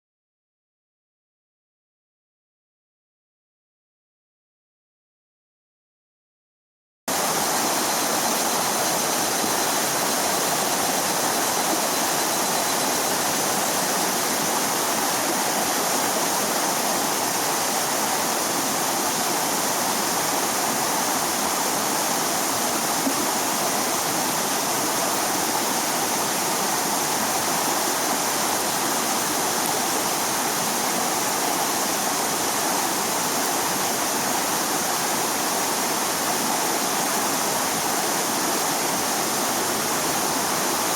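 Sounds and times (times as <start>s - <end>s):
flowing water rushing: 7.1s - 40.9s.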